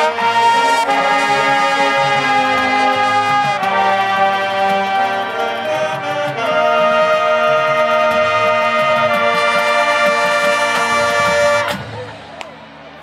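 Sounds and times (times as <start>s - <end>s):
brass section chord: 0.0s - 11.9s.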